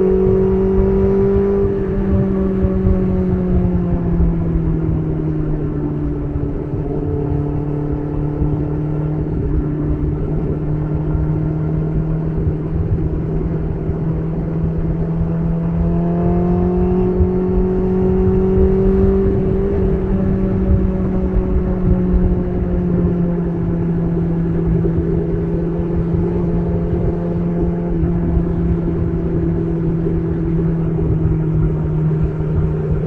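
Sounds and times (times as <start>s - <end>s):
motorcycle engine exhaust note: 0.0s - 33.0s
road and wind noise: 0.0s - 33.0s.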